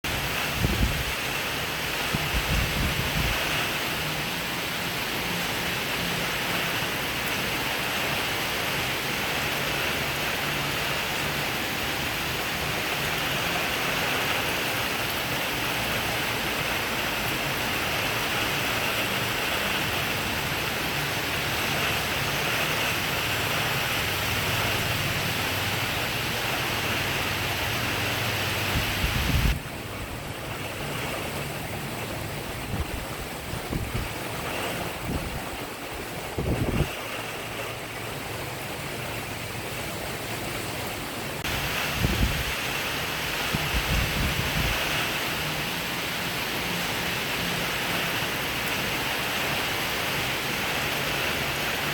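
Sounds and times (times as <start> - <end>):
rain on roof tiles and leaves: 0.0 - 51.9.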